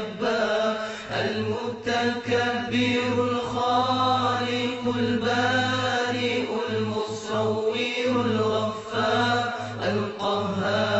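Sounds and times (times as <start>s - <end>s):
chanted vocal: 0.0s - 10.9s.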